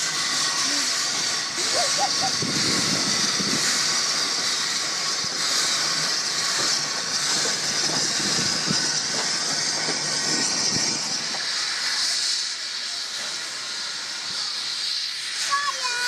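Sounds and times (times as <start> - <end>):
low rumble of moving train: 0.0 - 16.0
steam hissing from cylinder drains: 0.0 - 16.0.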